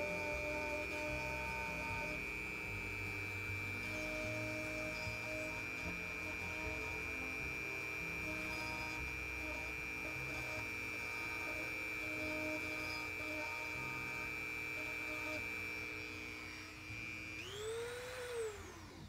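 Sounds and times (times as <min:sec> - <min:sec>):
electronic background music: 0:00.0 - 0:17.4.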